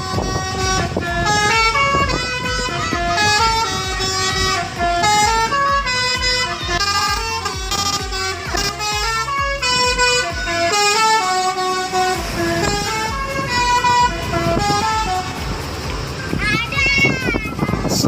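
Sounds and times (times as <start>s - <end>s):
bus engine running: 0.0s - 18.0s
multi-tone bus horn melody: 0.0s - 18.0s.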